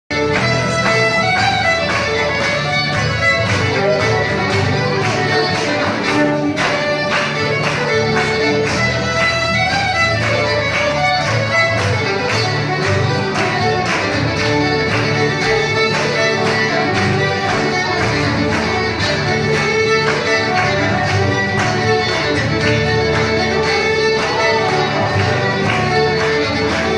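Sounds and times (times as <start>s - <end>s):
acoustic guitars strumming: 0.1s - 26.9s
fiddles playing a tune: 0.1s - 26.9s.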